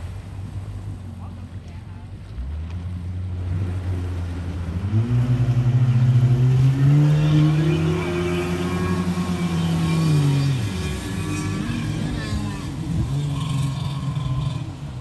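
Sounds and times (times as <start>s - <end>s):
jet ski engine accelerating: 0.0s - 15.0s.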